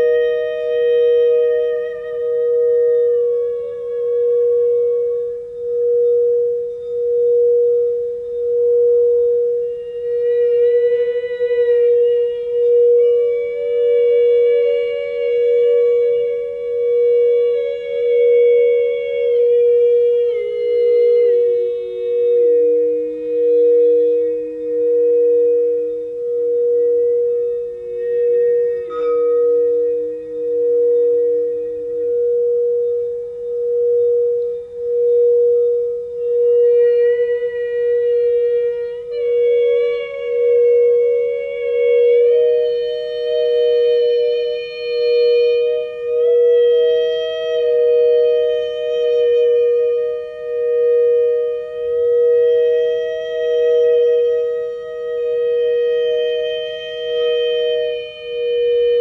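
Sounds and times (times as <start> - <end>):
singing bowl tone: 0.0 - 59.0.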